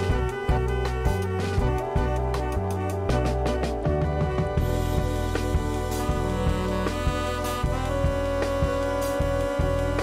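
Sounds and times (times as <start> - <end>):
soundtrack music with beat: 0.0 - 10.0.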